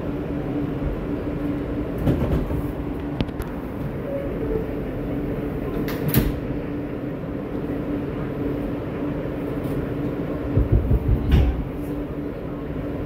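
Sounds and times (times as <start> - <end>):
steady hum: 0.0 - 13.0
subway train rumble: 0.0 - 13.0.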